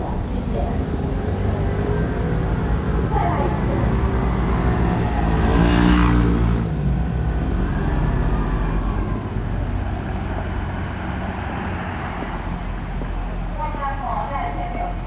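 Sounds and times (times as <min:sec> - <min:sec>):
road and traffic rumble: 0:00.0 - 0:15.0
vehicle engine revving: 0:00.8 - 0:13.2.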